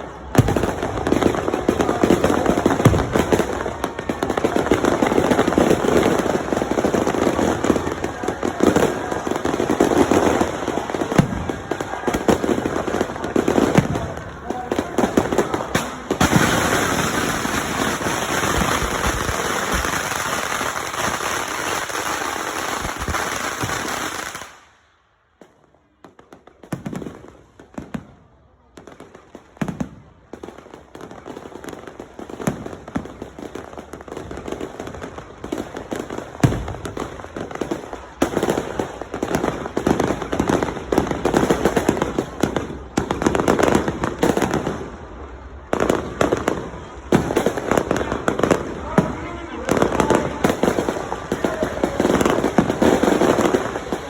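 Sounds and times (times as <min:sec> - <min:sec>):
firecrackers crackling: 0:00.0 - 0:54.0
fireworks bangs: 0:00.0 - 0:54.0.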